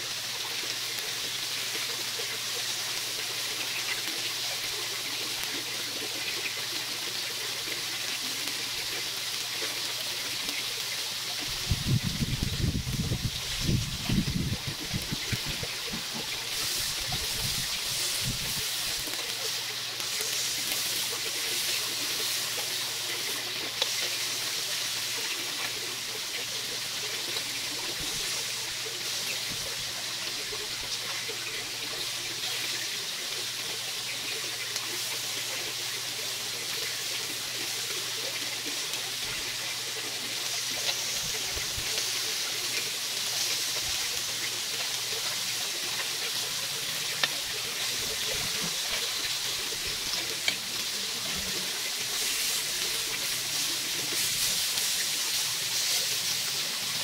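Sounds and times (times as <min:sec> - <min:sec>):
chicken sizzling on a grill plate: 0:00.0 - 0:57.0.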